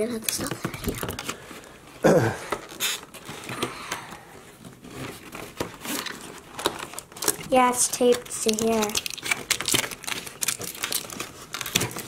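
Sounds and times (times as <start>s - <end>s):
toy box crinkling and rustling: 0.0s - 1.7s, 2.5s - 3.6s, 4.4s - 12.0s.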